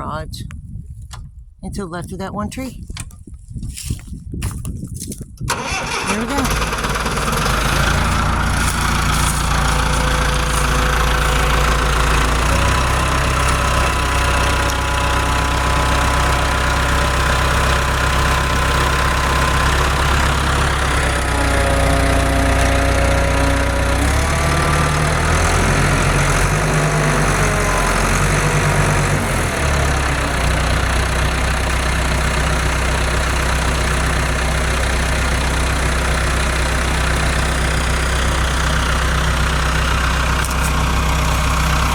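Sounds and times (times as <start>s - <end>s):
tractor engine running: 1.2s - 41.9s.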